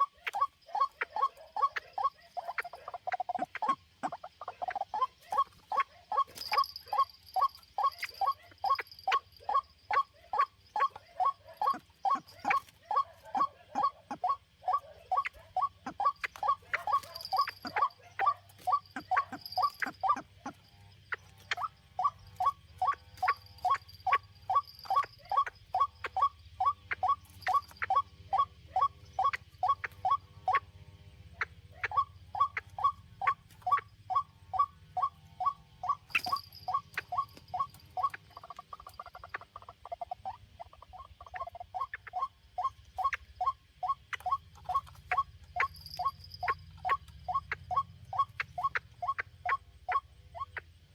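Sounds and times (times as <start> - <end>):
waterhen clipped calls: 0.0 - 30.7, 31.3 - 50.7.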